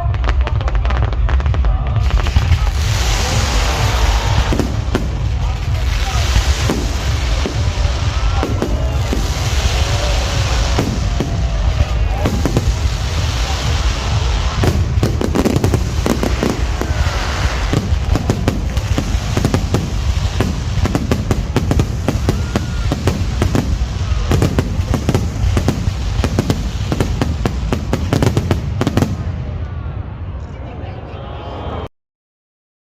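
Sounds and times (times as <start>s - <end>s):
fireworks bangs and crackles: 0.0s - 30.4s
low rumble: 0.0s - 30.6s.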